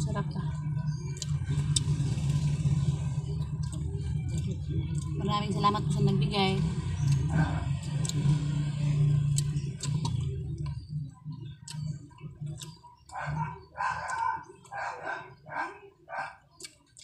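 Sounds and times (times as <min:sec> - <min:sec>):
low hum: 0:00.0 - 0:15.6
chewing crispy food: 0:00.6 - 0:05.7, 0:06.6 - 0:15.4, 0:16.4 - 0:17.0.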